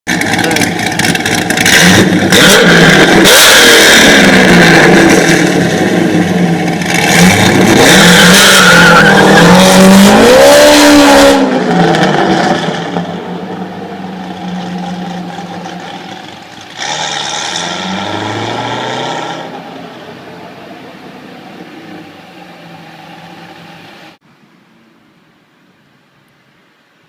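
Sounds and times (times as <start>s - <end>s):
sports car exhaust pulling away: 0.1s - 24.1s.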